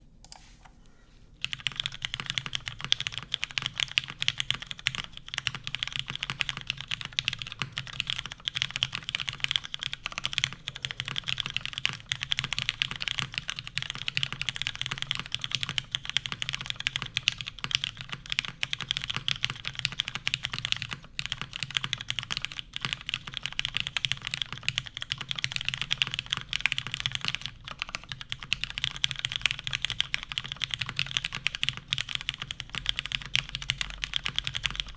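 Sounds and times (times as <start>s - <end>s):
fast typing on mechanical keyboard: 1.4s - 34.9s.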